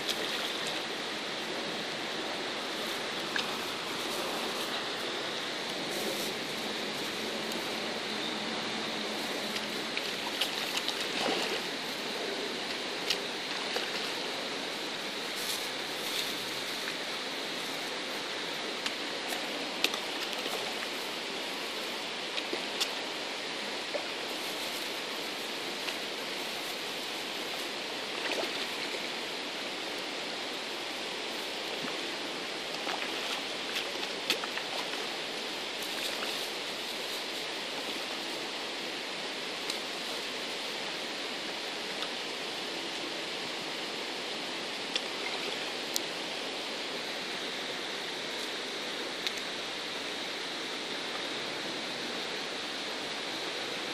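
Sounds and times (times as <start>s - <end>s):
stream running over stones: 0.0s - 53.9s.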